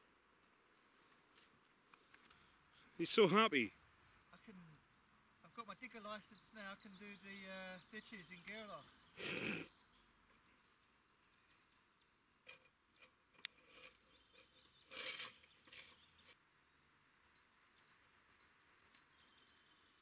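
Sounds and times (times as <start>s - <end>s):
faint songbird chirping: 0.0s - 20.0s.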